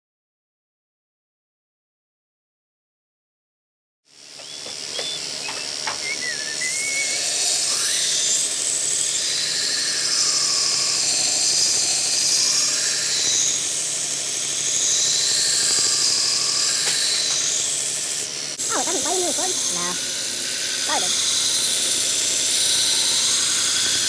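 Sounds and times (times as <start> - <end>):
grinder hissing on metal: 4.2 - 24.0
grinder squeals: 4.3 - 24.0.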